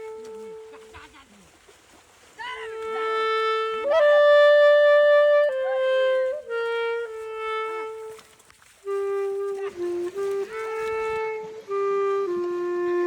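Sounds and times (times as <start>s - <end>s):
wind instrument slow melody: 0.0s - 1.2s, 2.5s - 13.0s.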